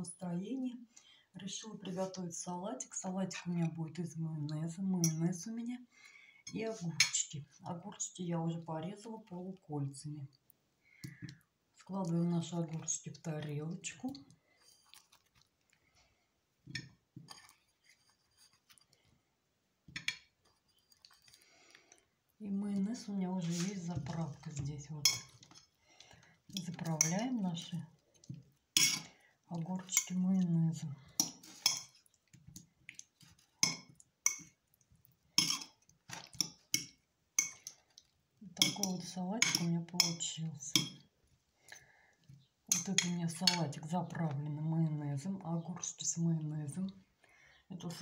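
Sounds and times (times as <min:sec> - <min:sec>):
soft mixing: 0:00.5 - 0:48.0.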